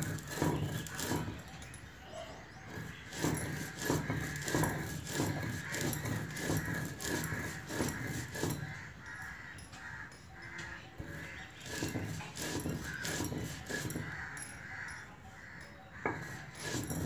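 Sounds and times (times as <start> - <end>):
stone grinding spices: 0.0 - 9.6, 10.6 - 15.0, 15.6 - 17.0.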